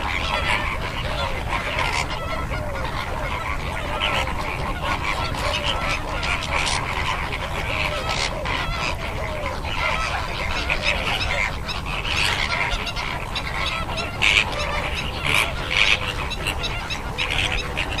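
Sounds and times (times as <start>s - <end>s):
flamingos honking: 0.0s - 18.0s.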